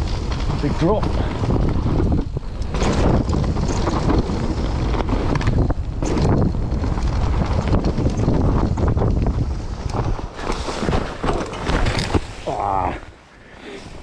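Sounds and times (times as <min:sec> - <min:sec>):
wind buffeting microphone: 0:00.0 - 0:13.2
bike tyres rumbling on dirt: 0:00.0 - 0:14.0.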